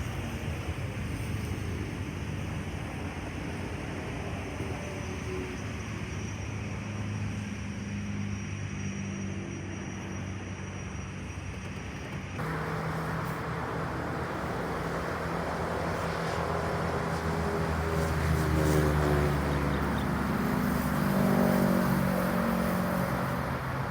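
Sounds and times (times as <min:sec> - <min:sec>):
aircraft engines droning: 0:00.0 - 0:23.9.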